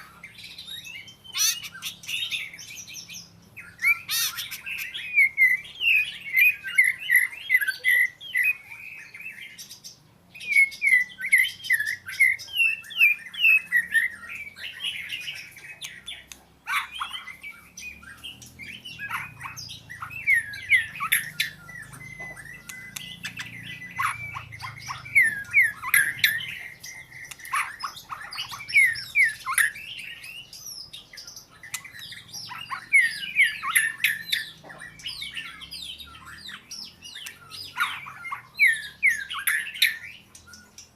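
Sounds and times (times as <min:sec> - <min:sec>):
bird singing whistled notes: 0:00.0 - 0:40.9.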